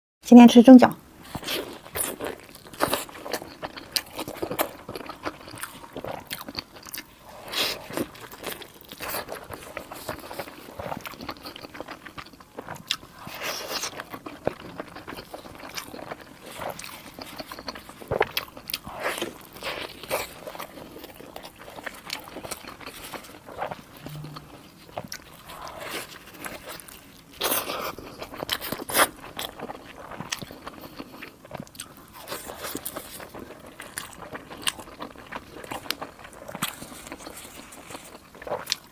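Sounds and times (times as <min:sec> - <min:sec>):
biting and chewing dumplings: 0:01.2 - 0:38.9.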